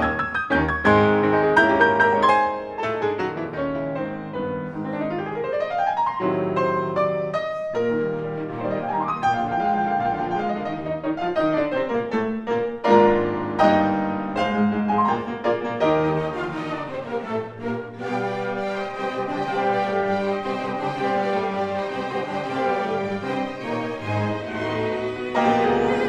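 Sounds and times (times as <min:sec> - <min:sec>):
classical grand piano: 0:00.0 - 0:26.0.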